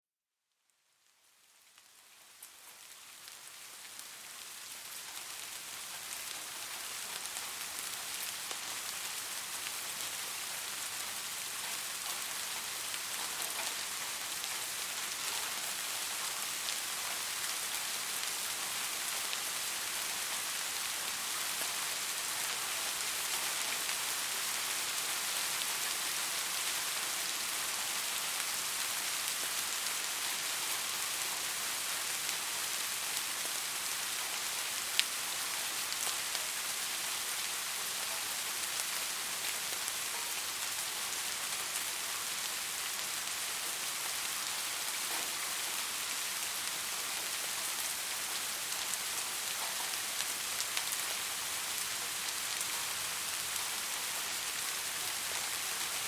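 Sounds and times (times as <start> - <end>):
soft rain pattering: 0.4 - 56.0.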